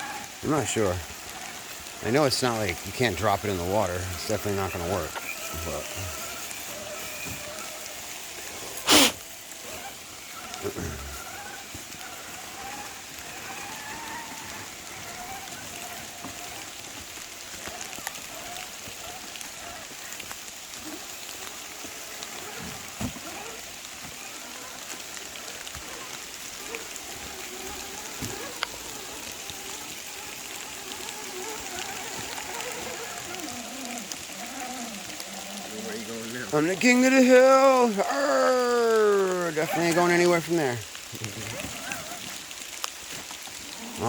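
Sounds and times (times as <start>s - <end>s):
rain pattering: 0.0s - 44.0s
whine of electric motors: 0.0s - 44.0s.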